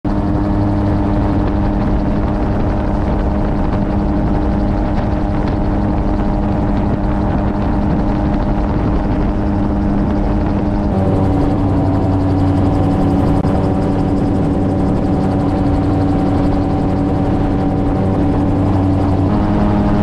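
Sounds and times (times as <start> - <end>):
gyrocopter engine and propeller drone: 0.0 - 20.0
wind rushing: 0.1 - 20.0.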